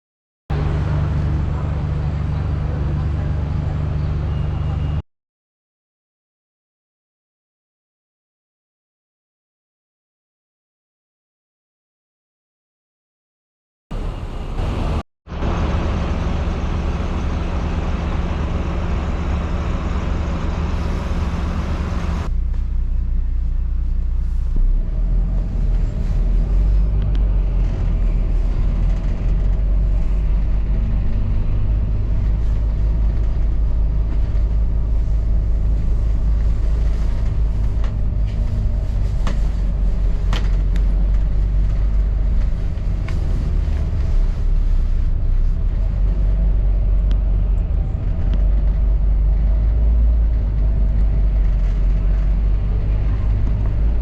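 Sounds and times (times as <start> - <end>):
bus engine rumble: 0.5 - 5.0, 13.9 - 54.0.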